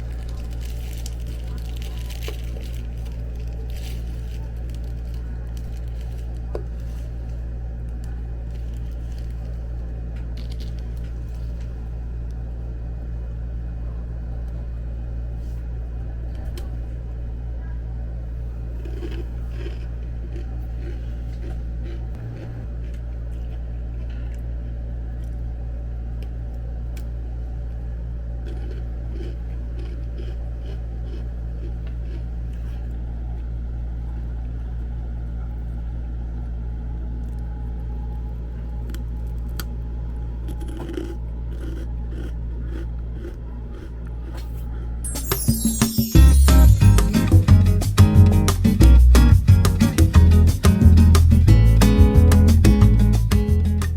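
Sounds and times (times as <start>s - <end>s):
low mechanical hum: 0.0s - 53.9s.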